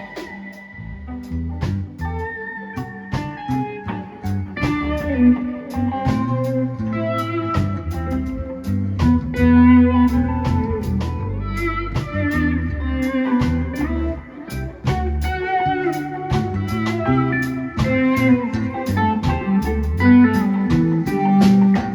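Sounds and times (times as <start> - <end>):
bass guitar: 0.0 - 21.9
electric guitar lead line: 0.0 - 21.9
steady drum beat: 1.6 - 2.2, 2.8 - 21.9.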